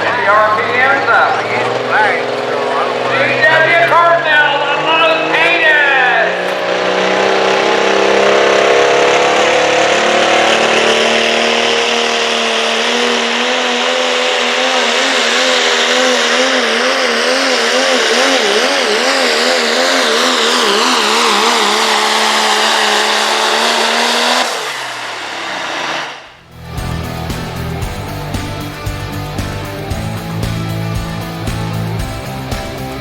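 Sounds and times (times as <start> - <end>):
diesel truck engine at full throttle: 0.0 - 33.0.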